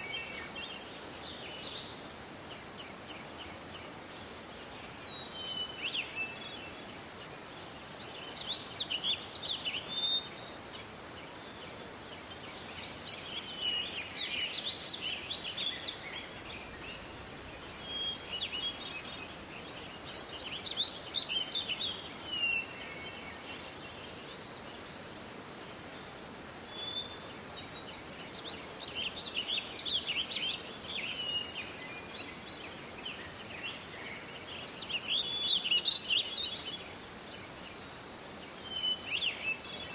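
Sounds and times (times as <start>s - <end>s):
songbirds twittering: 0.0s - 39.9s
steady background hiss: 0.0s - 39.9s.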